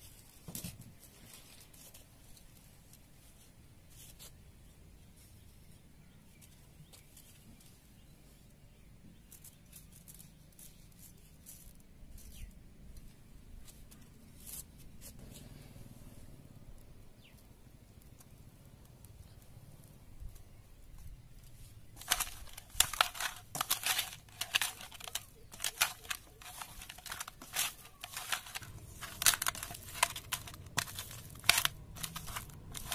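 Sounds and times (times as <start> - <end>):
light ticks and rustles: 0.0 - 4.4, 5.1 - 15.6, 16.4 - 32.9.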